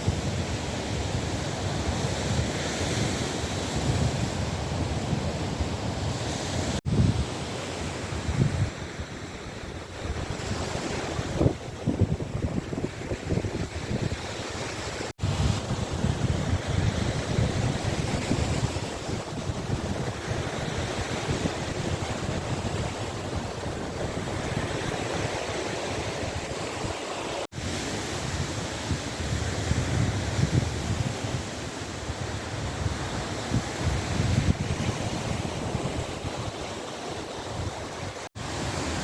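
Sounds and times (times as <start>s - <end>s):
waves washing onto shore: 0.0s - 39.0s
wind buffeting microphone: 0.0s - 39.0s.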